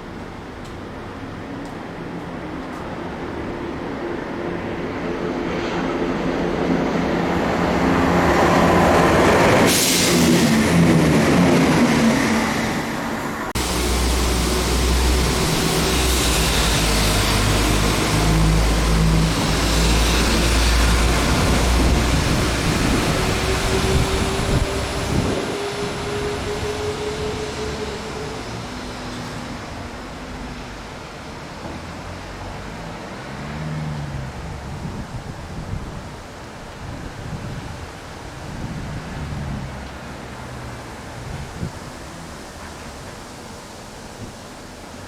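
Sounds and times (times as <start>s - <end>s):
diesel train passing: 0.0s - 45.0s.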